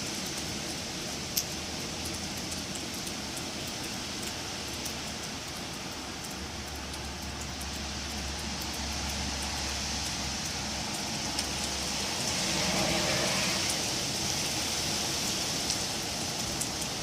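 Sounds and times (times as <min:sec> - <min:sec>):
wind rustling leaves and branches: 0:00.0 - 0:17.0.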